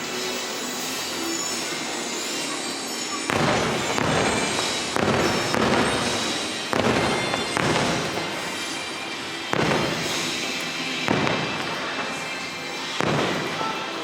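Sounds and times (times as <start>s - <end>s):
fireworks crackling: 0.0s - 14.0s
fireworks booming: 1.5s - 14.0s.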